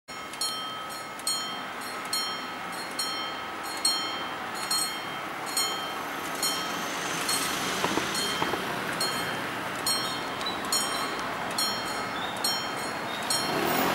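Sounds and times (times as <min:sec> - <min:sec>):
level crossing bell ringing: 0:00.1 - 0:13.6.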